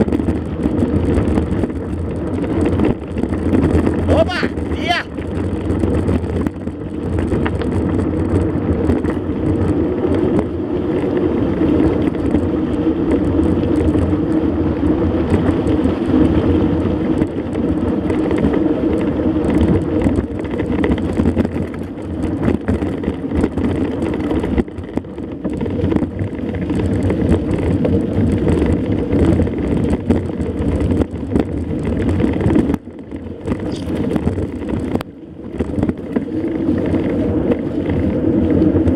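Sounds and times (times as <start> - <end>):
bike rattles and clicks: 0.0 - 38.9
bike tyre noise on dirt: 0.0 - 38.9
wind buffeting microphone: 0.0 - 38.9.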